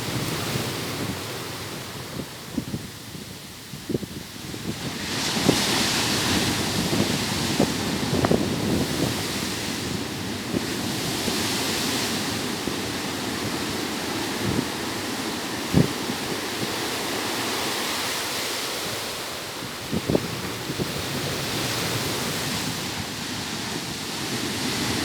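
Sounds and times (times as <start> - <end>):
wind buffeting microphone: 0.0 - 25.0
ocean waves breaking: 4.2 - 25.0.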